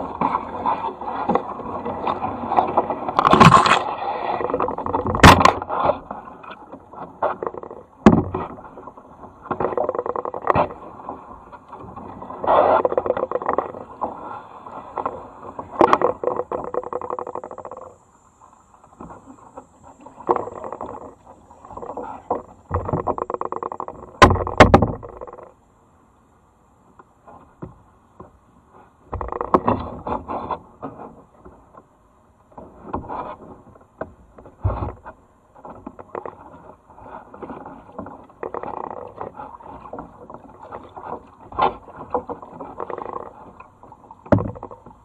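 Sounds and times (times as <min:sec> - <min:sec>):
paddles splashing in water: 0:00.0 - 0:25.6, 0:26.8 - 0:45.0.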